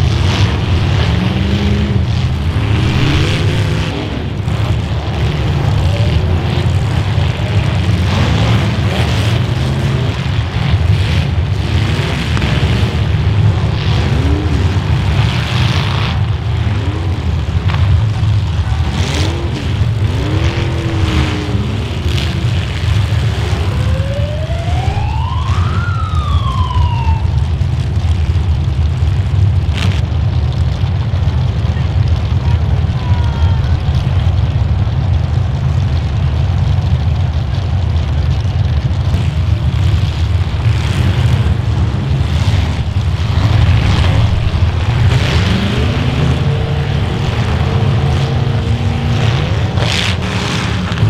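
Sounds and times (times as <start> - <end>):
car engines revving: 0.0 - 51.0
cars crashing: 0.0 - 51.0.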